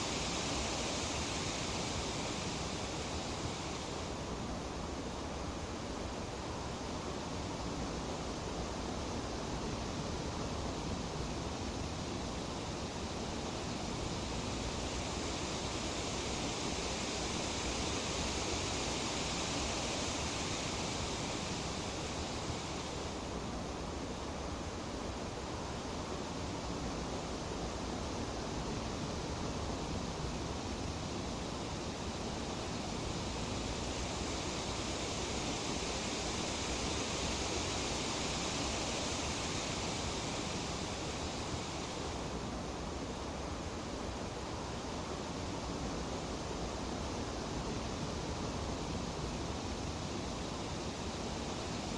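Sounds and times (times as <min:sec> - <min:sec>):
wind rustling tree leaves: 0:00.0 - 0:51.9.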